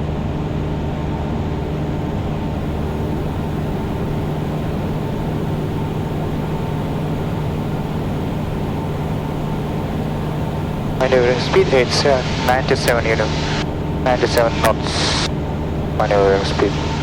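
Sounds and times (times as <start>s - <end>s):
aircraft engine droning in cabin: 0.0s - 17.0s.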